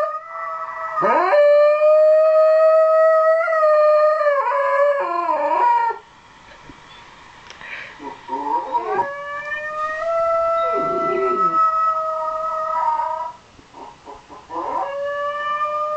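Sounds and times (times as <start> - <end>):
dog howling: 0.0 - 6.0, 8.0 - 13.4, 14.5 - 15.9.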